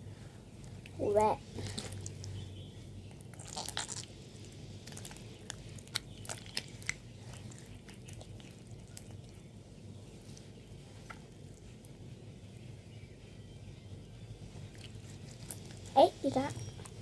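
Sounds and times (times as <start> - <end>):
slime squelching by hand: 0.5 - 12.7, 14.4 - 17.0.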